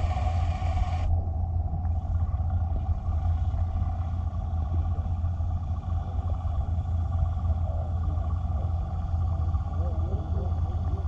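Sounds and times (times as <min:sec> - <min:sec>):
underwater rumble of moving water: 0:00.0 - 0:11.0.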